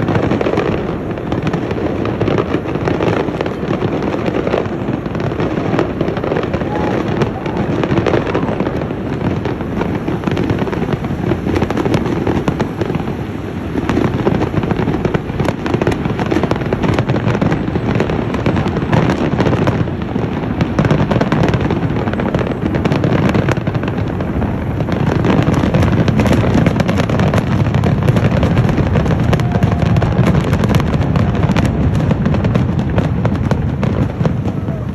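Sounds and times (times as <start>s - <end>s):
fireworks bursting and crackling: 0.0s - 34.9s.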